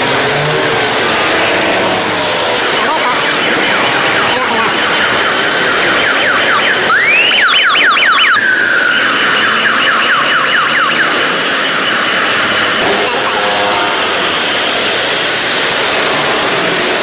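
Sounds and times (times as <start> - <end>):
car alarm: 0.0 - 17.0
passing traffic hum: 0.0 - 17.0.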